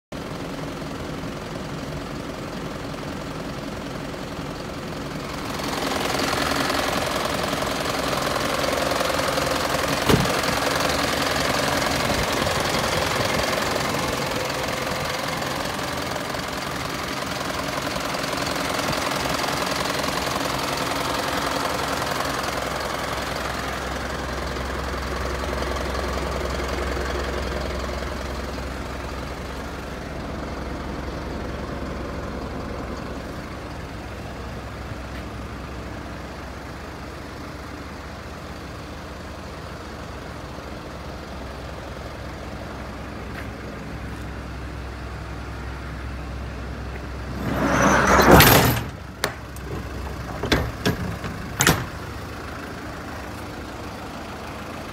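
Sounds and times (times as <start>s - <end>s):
diesel truck engine idling: 0.1s - 47.9s, 48.8s - 54.9s.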